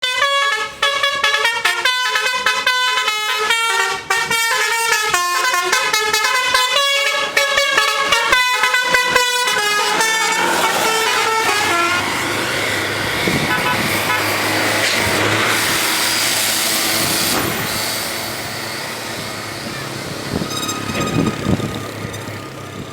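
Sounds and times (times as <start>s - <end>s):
bus horn playing a fast melody: 0.0s - 16.0s, 19.0s - 22.8s
rushing road noise: 0.0s - 22.9s
bus engine running: 0.1s - 22.9s.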